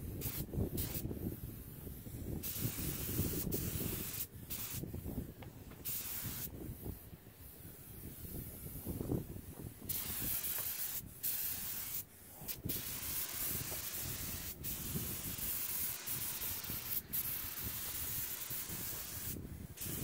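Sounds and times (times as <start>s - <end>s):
paint spray gun hissing: 0.1s - 9.1s, 9.9s - 20.0s.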